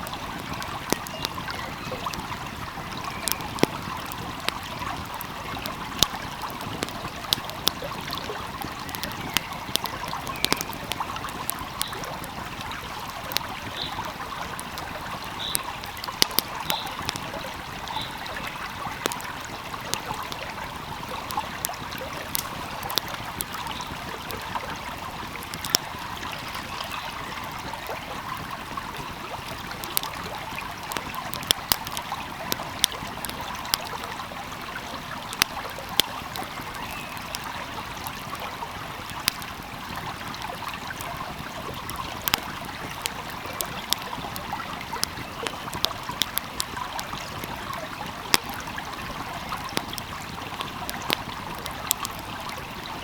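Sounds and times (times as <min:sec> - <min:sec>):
fire popping and crackling: 0:00.0 - 0:53.0
flowing stream: 0:00.0 - 0:53.0.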